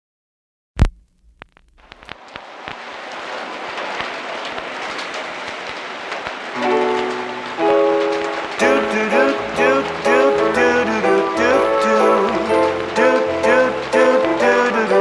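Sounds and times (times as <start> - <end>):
rushing noise with crackles: 0.8 - 15.0.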